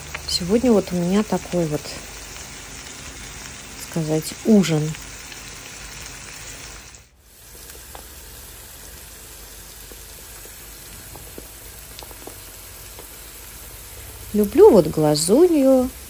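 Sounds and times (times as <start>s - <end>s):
eggs sizzling in a pan: 0.0s - 16.0s.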